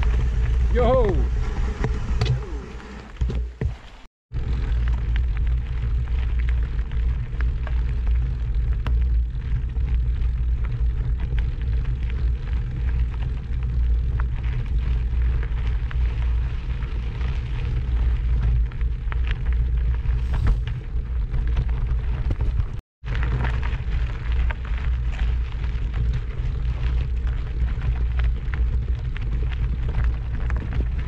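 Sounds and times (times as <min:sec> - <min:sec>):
wind buffeting the microphone: 0:03.6 - 0:31.0
small clicks and ticks: 0:04.4 - 0:31.0.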